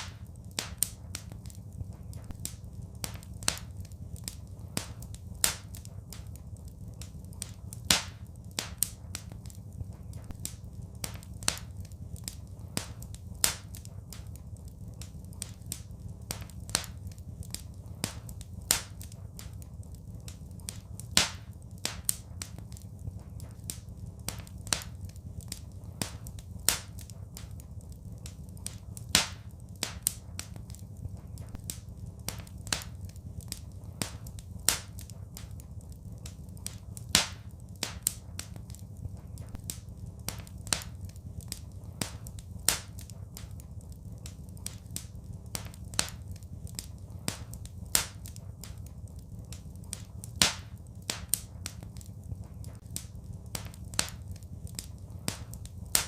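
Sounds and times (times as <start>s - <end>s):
fire low rumble: 0.0s - 56.0s
fire snaps and pops: 0.0s - 56.0s.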